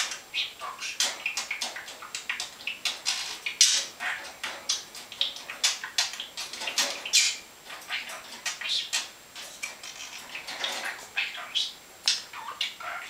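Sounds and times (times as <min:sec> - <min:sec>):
budgerigar chattering: 0:00.0 - 0:09.2, 0:09.8 - 0:13.0.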